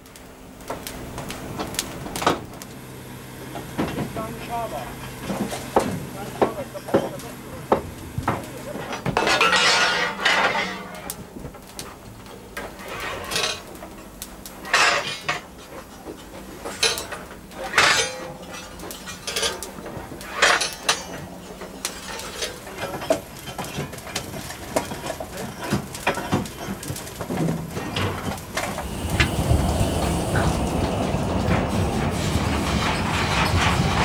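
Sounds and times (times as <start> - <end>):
fire irons scraping and clanking: 0.0 - 34.0
steady low hum: 0.0 - 34.0.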